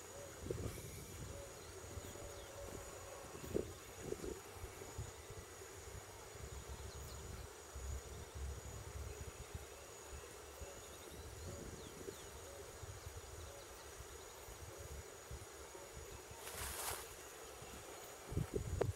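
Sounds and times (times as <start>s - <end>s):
high-pitched insect drone: 0.0s - 18.9s.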